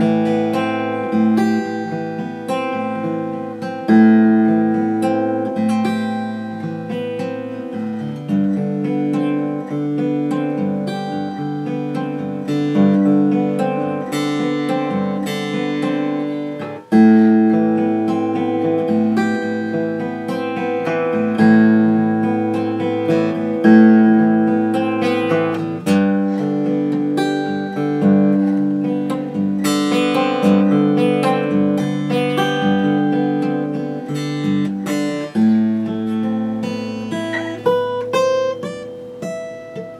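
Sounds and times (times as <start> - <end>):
acoustic guitar played fingerstyle: 0.0 - 39.9.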